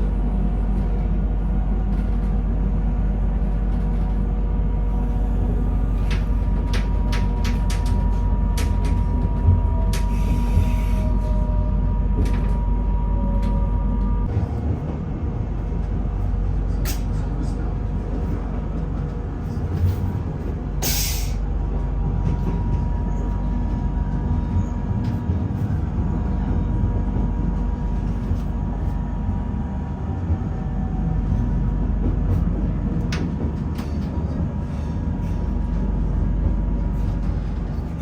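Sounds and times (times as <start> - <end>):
train rumble inside carriage: 0.0 - 38.0.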